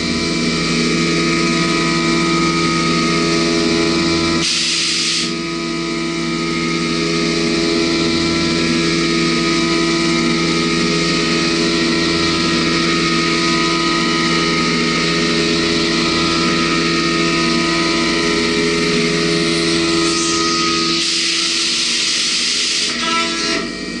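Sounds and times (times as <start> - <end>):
milling machine hum: 0.0 - 24.0.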